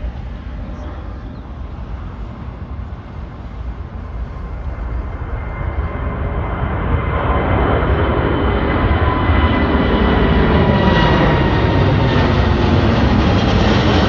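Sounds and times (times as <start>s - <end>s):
high jet engine whine: 0.0s - 14.0s
jet engine rumble: 0.0s - 14.0s.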